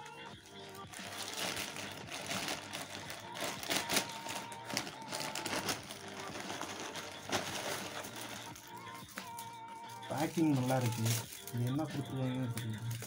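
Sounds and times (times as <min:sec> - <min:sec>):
plastic bag crinkling and rustling: 0:00.0 - 0:13.0
scissors cutting plastic bag: 0:00.0 - 0:13.0.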